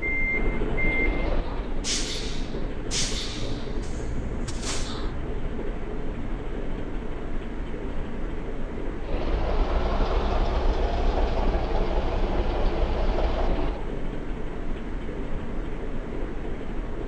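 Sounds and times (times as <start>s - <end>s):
heavy vehicle low rumble: 0.0s - 17.0s.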